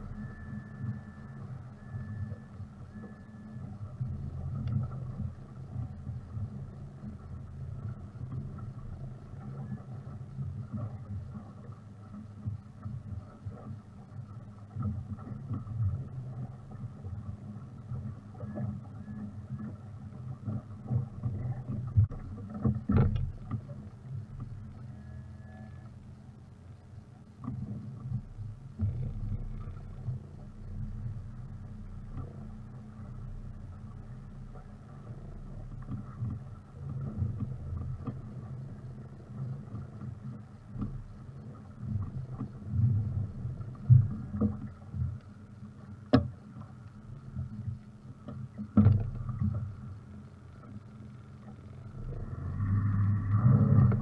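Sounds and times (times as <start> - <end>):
outboard motor idling: 0.0 - 54.0
water lapping against hull: 0.0 - 54.0.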